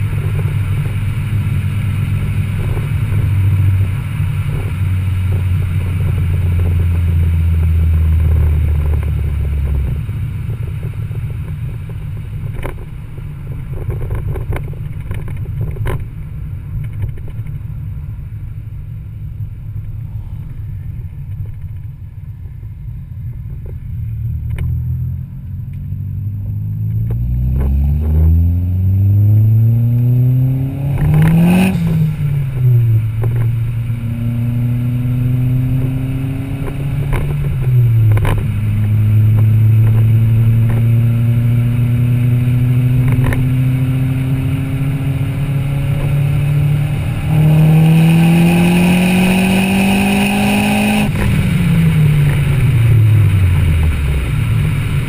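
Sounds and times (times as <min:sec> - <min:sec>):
car engine and exhaust while driving: 0:00.0 - 0:55.0.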